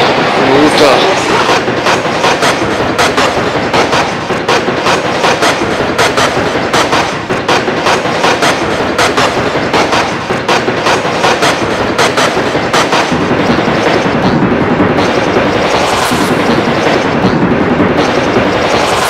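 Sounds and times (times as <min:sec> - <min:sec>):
chopped noise bursts in rhythm: 0:00.0 - 0:19.0.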